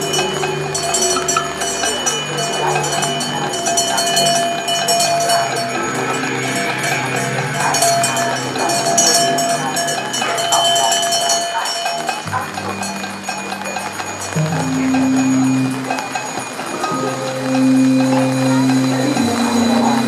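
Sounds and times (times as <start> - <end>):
electric keyboard: 0.0 - 20.0.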